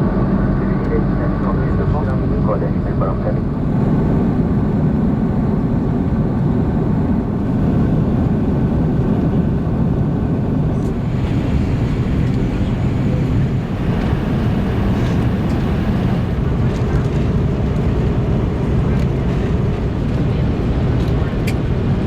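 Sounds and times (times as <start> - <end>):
aircraft engine rumble in cabin: 0.0 - 22.0.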